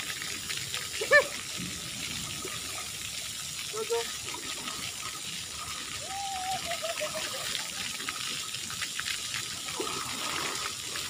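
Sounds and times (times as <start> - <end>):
shallow water running and splashing: 0.0 - 11.0.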